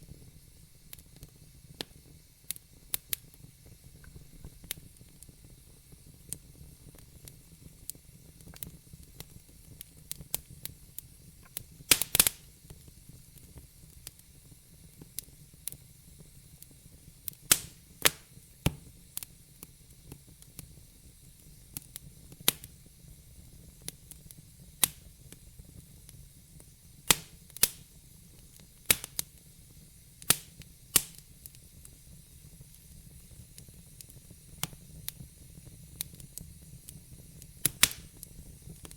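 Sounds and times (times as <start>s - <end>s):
faint hiss: 0.0s - 38.9s
logs crackling in fireplace: 0.0s - 38.9s.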